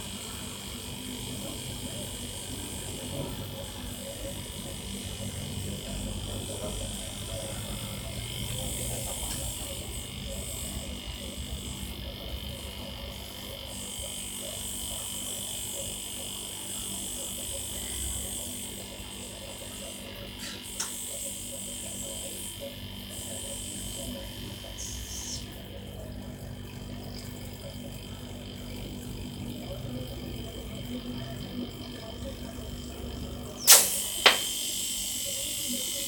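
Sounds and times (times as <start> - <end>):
refrigerator compressor humming: 0.0 - 36.0.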